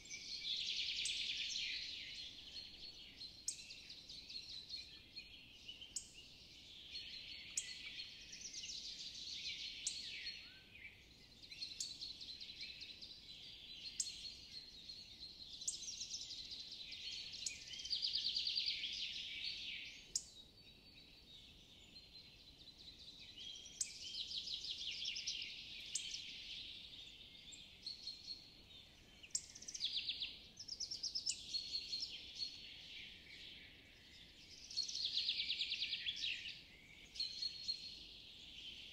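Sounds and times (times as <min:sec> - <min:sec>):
small birds singing: 0:00.0 - 0:38.9.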